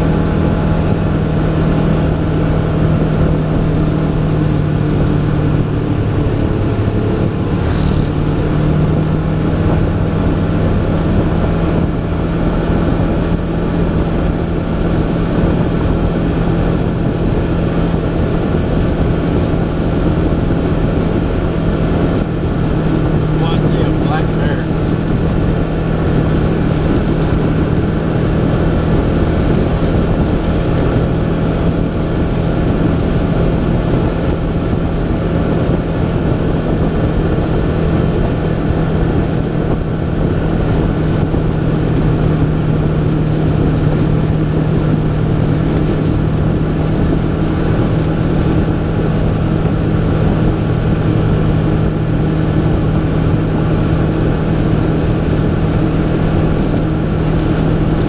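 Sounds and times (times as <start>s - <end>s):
tyre and wind noise: 0.0s - 58.0s
vehicle engine drone: 0.0s - 58.0s.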